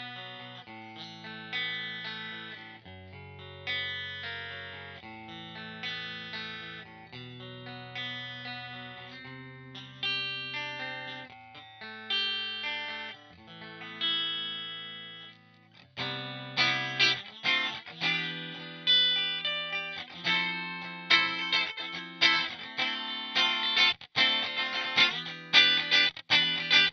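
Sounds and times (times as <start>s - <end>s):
electric guitar chords: 0.0s - 26.9s.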